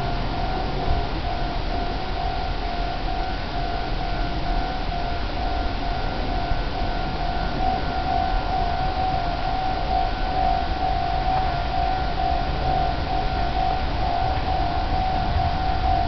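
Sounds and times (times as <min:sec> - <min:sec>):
level crossing alarm ringing: 0:00.0 - 0:16.0.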